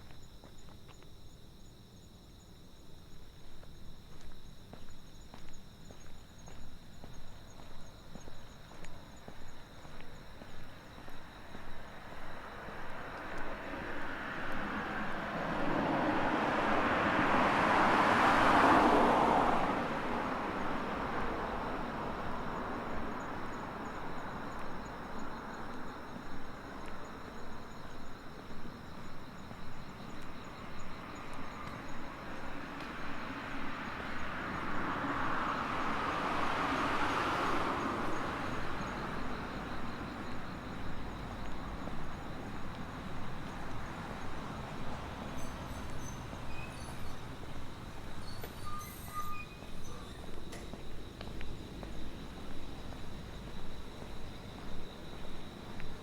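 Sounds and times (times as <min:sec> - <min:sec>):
insects chirring: 0:00.0 - 0:56.0
car passing by: 0:10.6 - 0:56.0.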